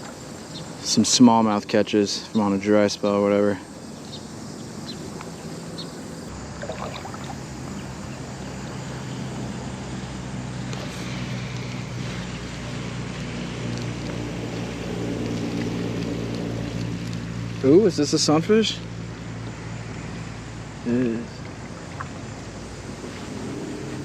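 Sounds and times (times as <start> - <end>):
road traffic noise: 1.6 - 24.0
vehicle engine hum: 3.6 - 24.0.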